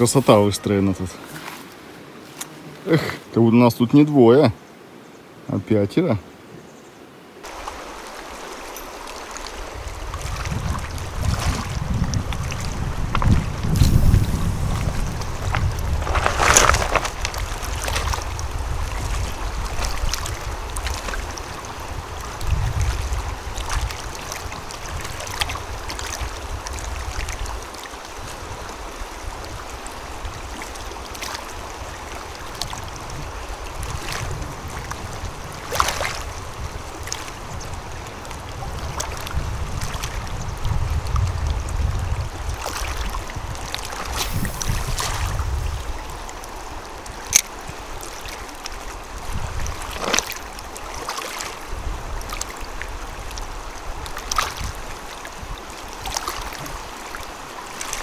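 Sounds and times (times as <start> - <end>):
river water flowing: 0.0 - 58.0
wind on microphone: 9.4 - 57.0.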